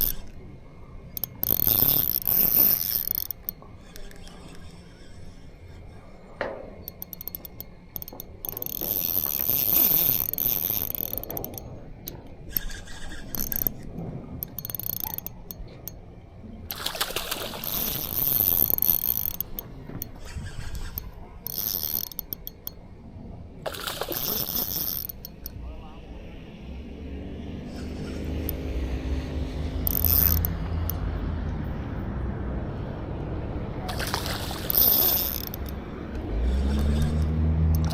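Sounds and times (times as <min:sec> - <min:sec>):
fishing reel ratcheting and whirring: 0:00.0 - 0:00.4, 0:01.1 - 0:16.0, 0:16.7 - 0:22.8, 0:23.6 - 0:25.6, 0:27.7 - 0:31.1, 0:33.9 - 0:37.9.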